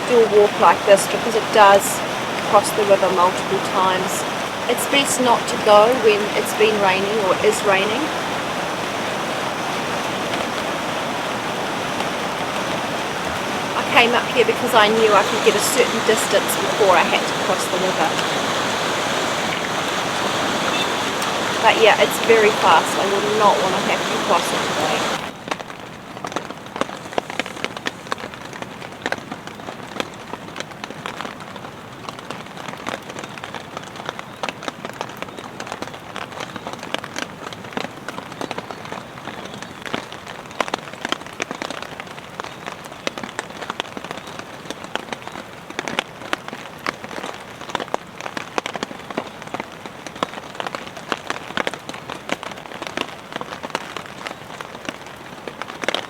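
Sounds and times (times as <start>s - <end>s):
raindrops tapping on surface: 0.0s - 56.0s
steady rain: 0.0s - 56.0s.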